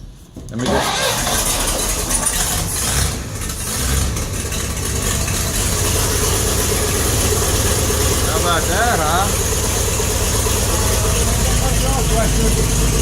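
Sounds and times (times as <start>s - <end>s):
gasoline engine idling: 0.0s - 13.0s.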